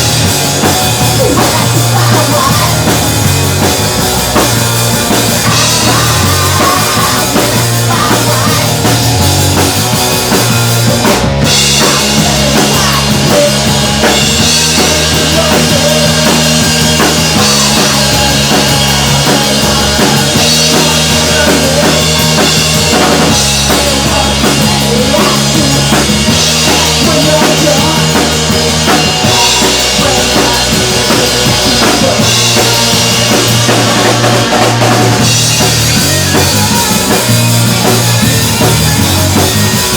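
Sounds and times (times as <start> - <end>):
drum kit beat: 0.0 - 39.9
rock band music: 0.0 - 39.9.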